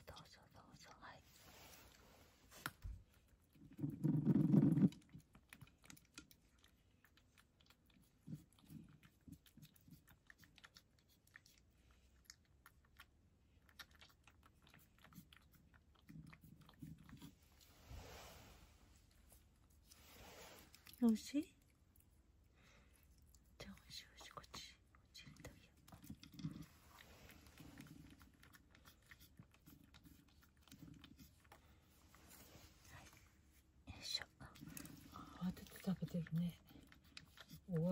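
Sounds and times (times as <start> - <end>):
cat chewing food: 0.0 - 37.9.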